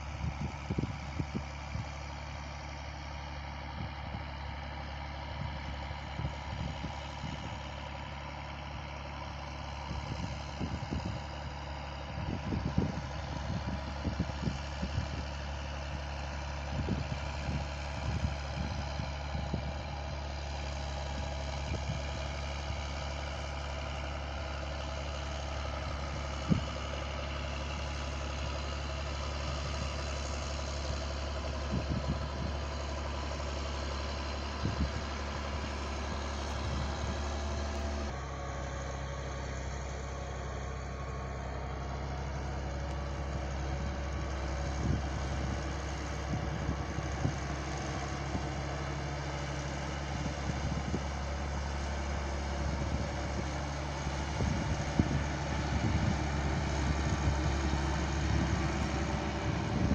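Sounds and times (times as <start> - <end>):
distant tractor engine drone: 0.0 - 59.9.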